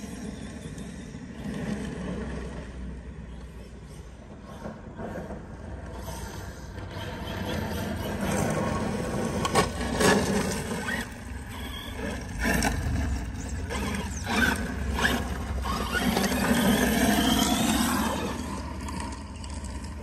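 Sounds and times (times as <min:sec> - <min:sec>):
electric motors whining: 0:00.0 - 0:20.0
tyres scraping loose gravel: 0:00.0 - 0:20.0.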